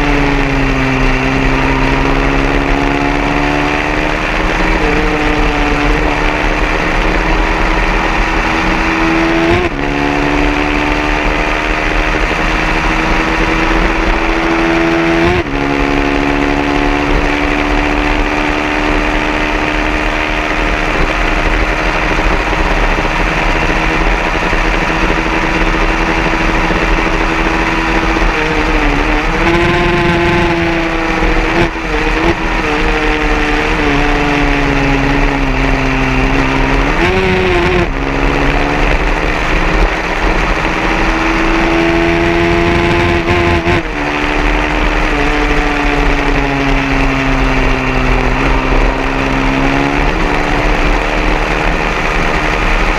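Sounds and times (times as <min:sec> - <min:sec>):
racing motorcycle engine: 0:00.0 - 0:52.9.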